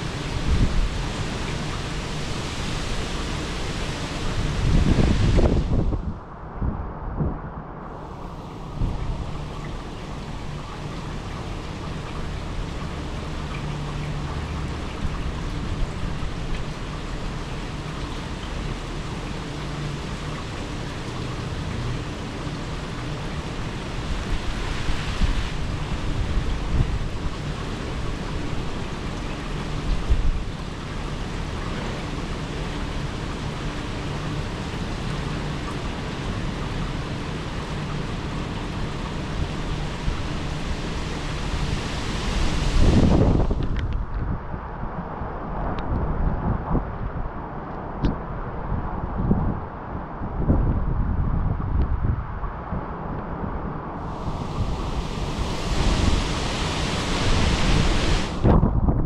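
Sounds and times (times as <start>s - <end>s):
wind gusts buffeting microphone: 0.0s - 30.7s, 38.5s - 59.0s
wind and rain rushing: 0.0s - 59.0s.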